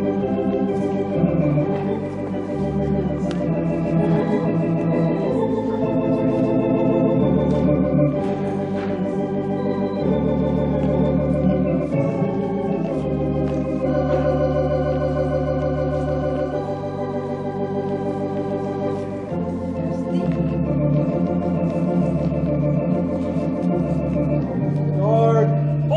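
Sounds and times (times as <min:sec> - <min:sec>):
organ playing chords: 0:00.0 - 0:25.9.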